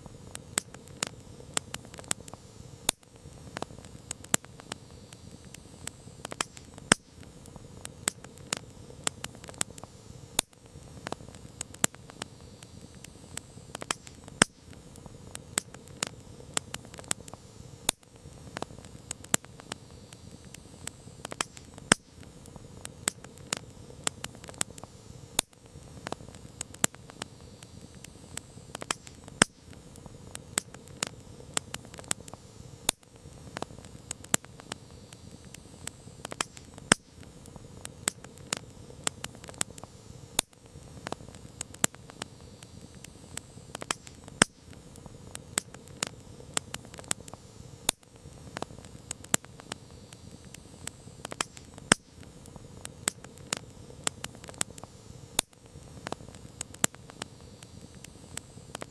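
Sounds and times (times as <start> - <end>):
campfire crackling: 0.0 - 58.9
fire popping and snapping: 0.0 - 58.9
low hiss of burning fire: 0.0 - 58.9.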